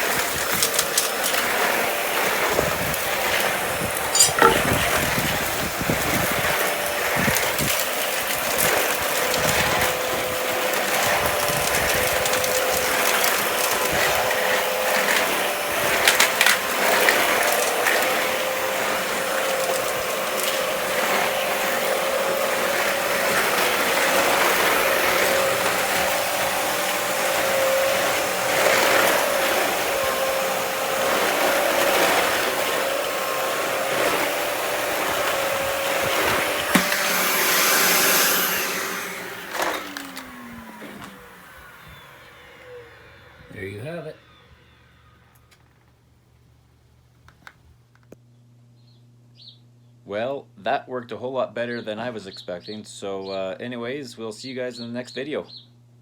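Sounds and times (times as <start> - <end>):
vacuum cleaner whining: 0.0 - 46.2.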